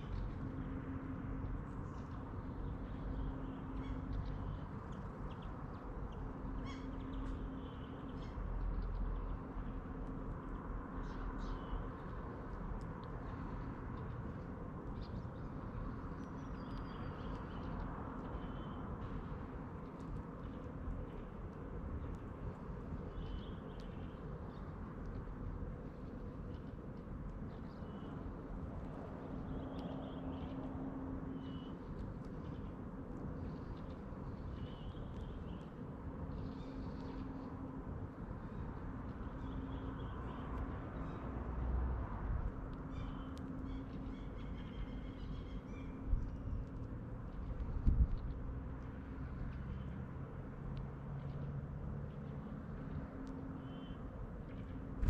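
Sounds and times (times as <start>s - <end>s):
faint steady hum: 0.0s - 55.0s
outdoor background noise: 0.0s - 55.0s
small birds chirping: 1.5s - 41.3s, 42.5s - 51.0s, 52.0s - 55.0s.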